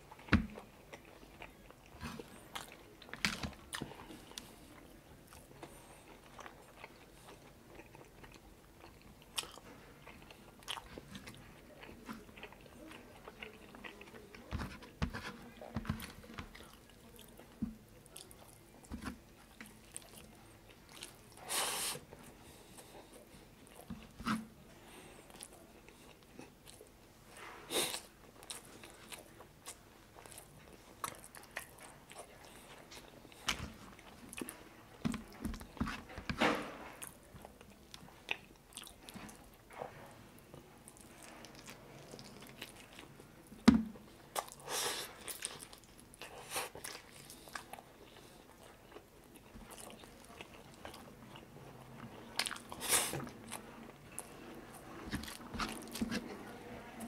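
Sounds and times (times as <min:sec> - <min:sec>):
man chewing food: 0:00.0 - 0:57.0.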